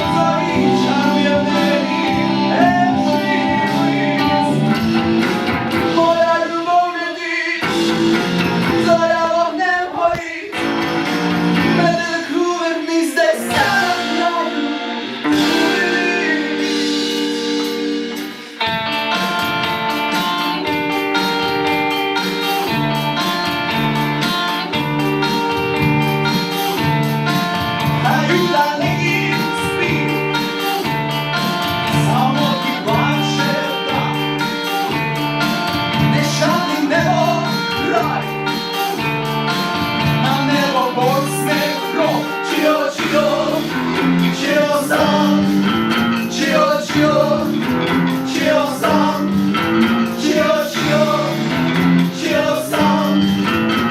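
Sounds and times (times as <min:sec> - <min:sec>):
person singing: 0:00.0 - 0:10.8, 0:11.6 - 0:19.4, 0:26.3 - 0:53.9
strummed guitar: 0:00.0 - 0:53.9.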